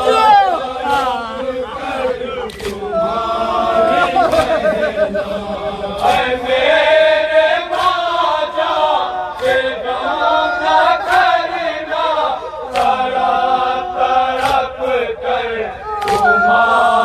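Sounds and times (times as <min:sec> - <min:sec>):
voices chanting together: 0:00.0 - 0:17.0.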